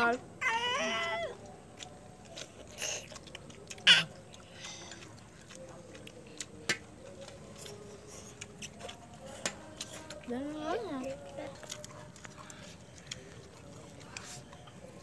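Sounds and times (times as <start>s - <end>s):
noodles slurped and chewed: 0.6s - 15.0s.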